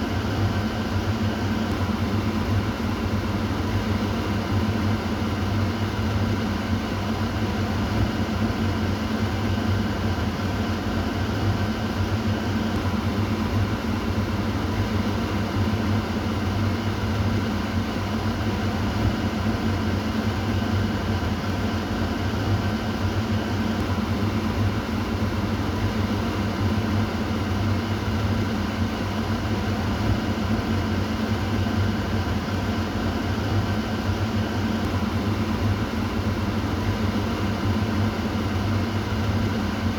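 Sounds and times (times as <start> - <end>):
exhaust fan rushing air: 0.0 - 39.9.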